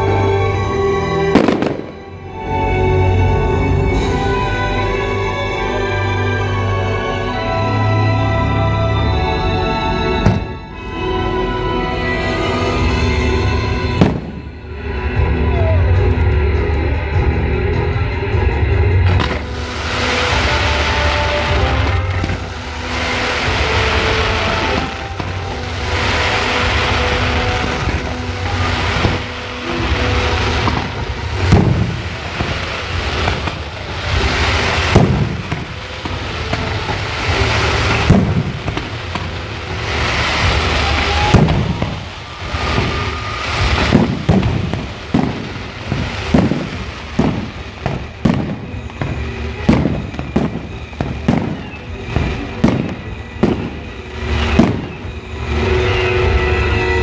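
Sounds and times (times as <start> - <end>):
fireworks bursting with bangs: 0.0 - 5.5, 10.2 - 11.1, 12.0 - 15.2, 19.0 - 57.0.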